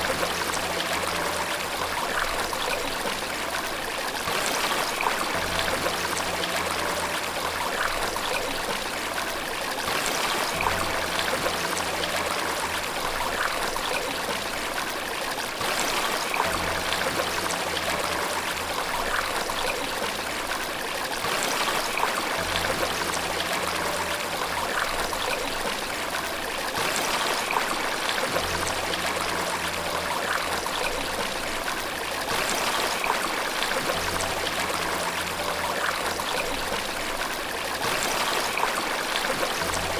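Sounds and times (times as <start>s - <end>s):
rushing water: 0.0s - 39.9s
soft low musical notes: 0.0s - 39.9s.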